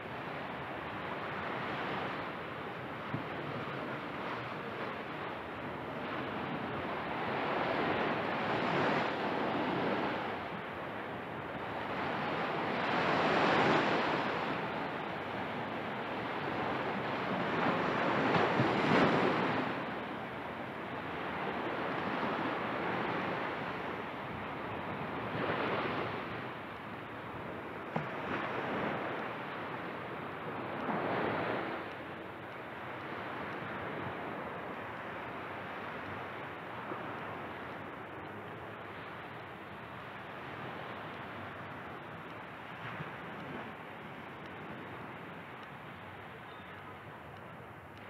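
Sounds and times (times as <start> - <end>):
surf washing onto beach: 0.0 - 39.4.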